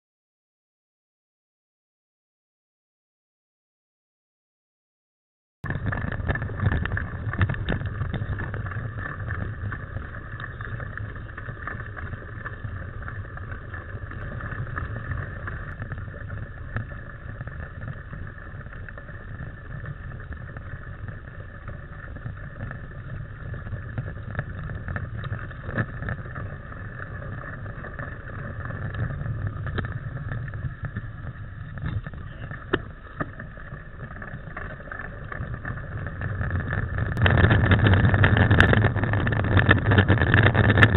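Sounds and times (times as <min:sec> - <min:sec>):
tyres rumbling on dirt: 0:05.6 - 0:40.9
wind on microphone: 0:05.6 - 0:40.9
bike clicks and rattles: 0:05.7 - 0:40.9.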